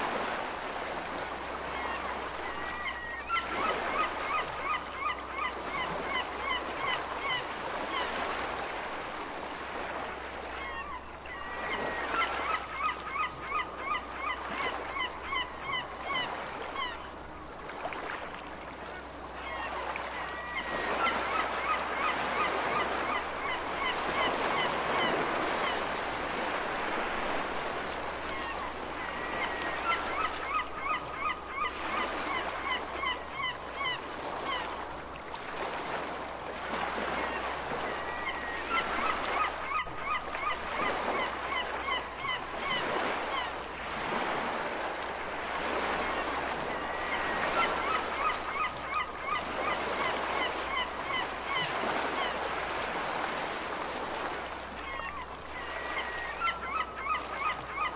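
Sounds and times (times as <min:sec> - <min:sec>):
ocean surf: 0:00.0 - 0:57.9
gulls calling: 0:01.7 - 0:08.5, 0:10.5 - 0:17.2, 0:19.3 - 0:34.8, 0:36.8 - 0:44.9, 0:45.5 - 0:53.6, 0:54.2 - 0:57.9.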